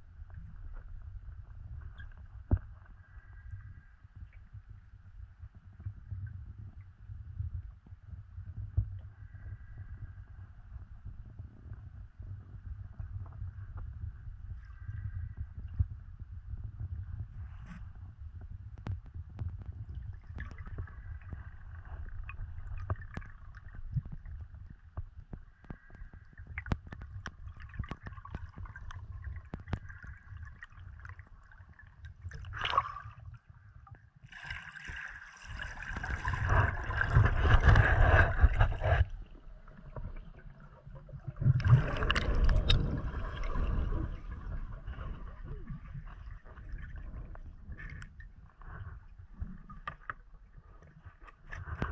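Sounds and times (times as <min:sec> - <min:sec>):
muffled underwater rumble: 0:00.0 - 0:34.2, 0:35.4 - 0:51.9
water sloshing and bubbling: 0:00.0 - 0:51.9.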